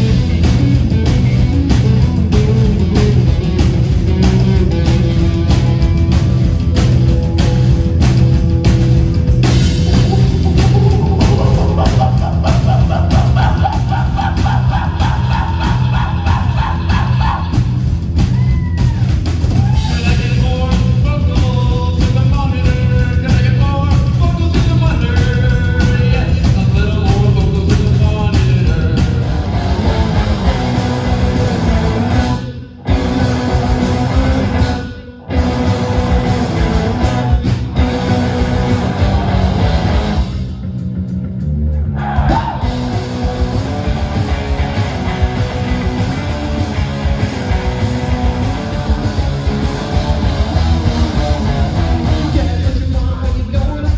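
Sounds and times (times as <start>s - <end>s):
bass guitar: 0.0s - 53.9s
distorted electric guitars: 0.0s - 53.9s
drum kit: 0.0s - 53.9s.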